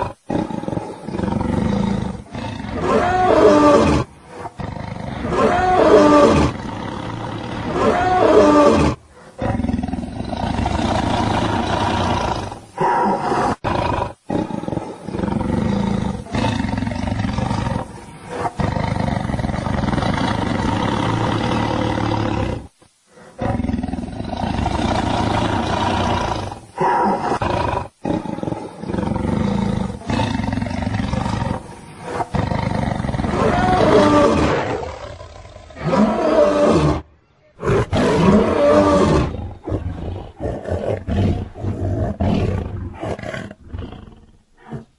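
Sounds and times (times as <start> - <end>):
lion growling and roaring: 0.0 - 44.9.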